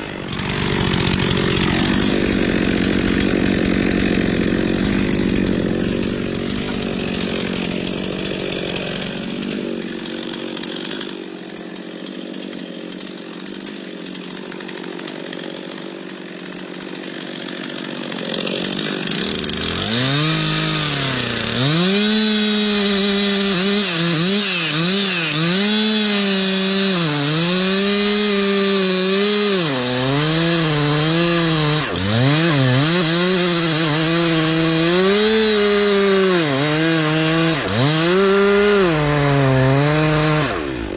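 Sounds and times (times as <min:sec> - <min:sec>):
chainsaw cutting: 0:00.0 - 0:40.9.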